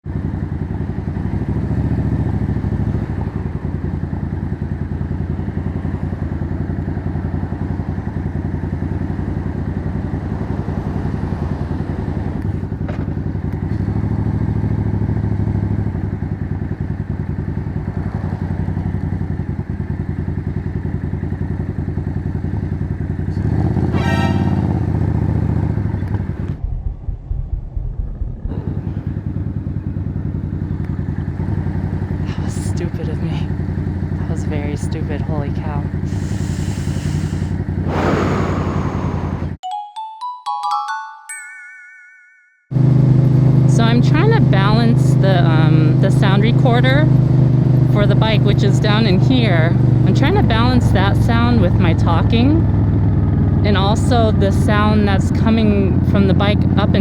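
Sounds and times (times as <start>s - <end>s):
motorcycle engine revving: 0.1s - 39.6s, 42.7s - 57.0s.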